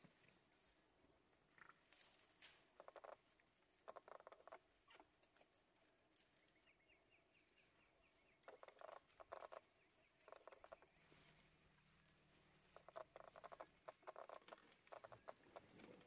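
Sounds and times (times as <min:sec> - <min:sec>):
crackling in dry grass: 0:00.0 - 0:16.0.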